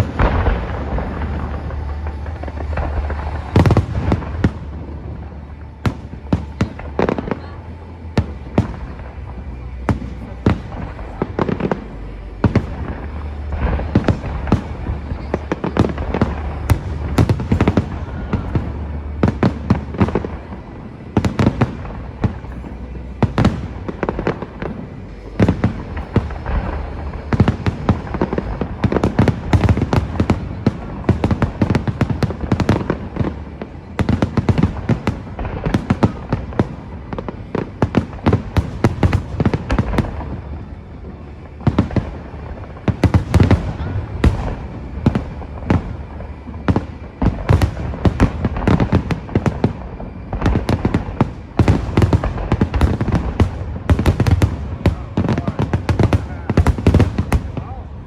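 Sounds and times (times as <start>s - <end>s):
faint music: 0.0s - 58.0s
fireworks exploding: 0.0s - 58.0s
low rumble: 0.0s - 58.0s.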